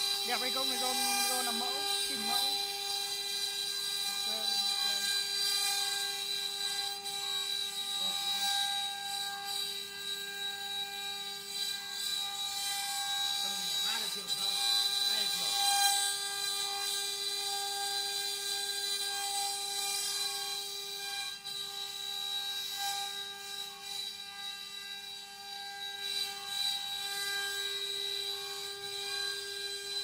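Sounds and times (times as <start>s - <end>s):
machine spindle high whine: 0.0s - 30.0s.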